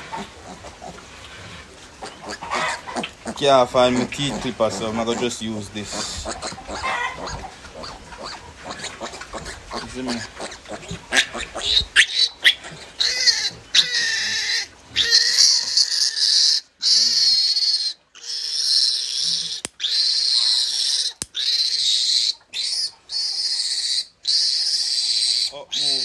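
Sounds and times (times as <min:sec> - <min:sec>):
piglet squealing: 0:02.0 - 0:26.0.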